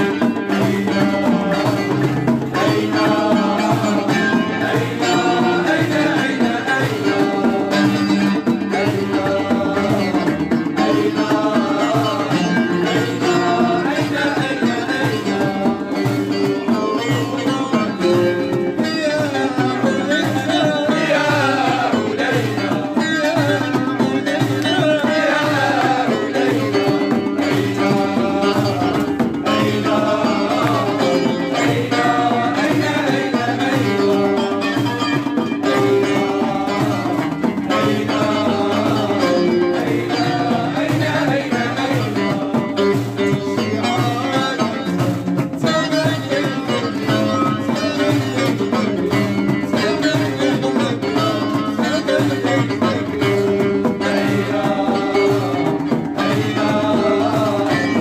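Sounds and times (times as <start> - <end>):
hand drums: 0.0 - 58.0.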